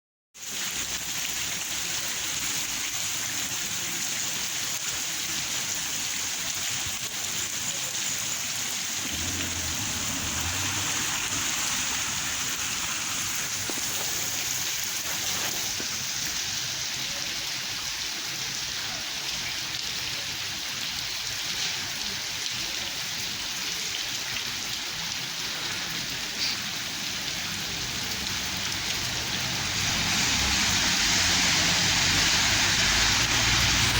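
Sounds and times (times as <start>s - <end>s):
rain pattering on hard surfaces: 0.4s - 33.9s.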